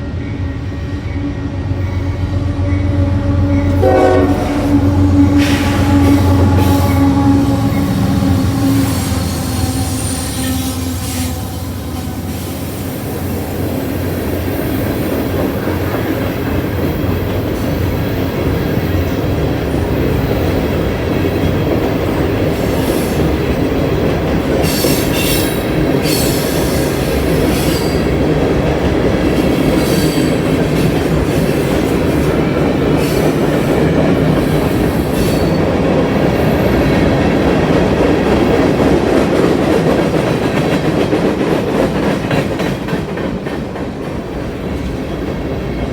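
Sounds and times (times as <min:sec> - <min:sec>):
freight train wheels clacking on rails: 0:00.0 - 0:45.9.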